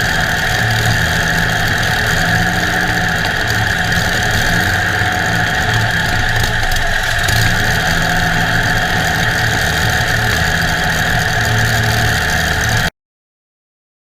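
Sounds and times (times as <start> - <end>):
car engine running at low revs: 0.0 - 12.9.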